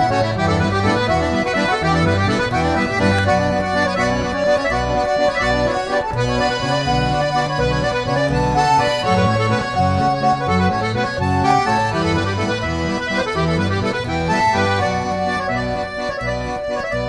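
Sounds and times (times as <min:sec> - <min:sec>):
accordion music: 0:00.0 - 0:17.0.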